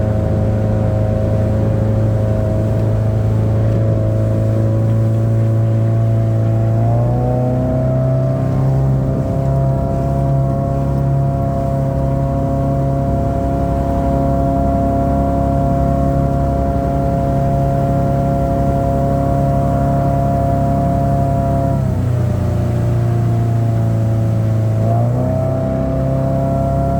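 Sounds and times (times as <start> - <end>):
boat engine running at speed: 0.0 - 26.9.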